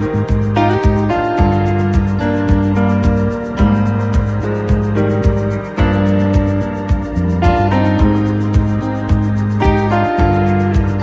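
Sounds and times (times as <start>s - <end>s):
music with steady beat: 0.0s - 11.0s
sustained keyboard chords: 0.0s - 11.0s.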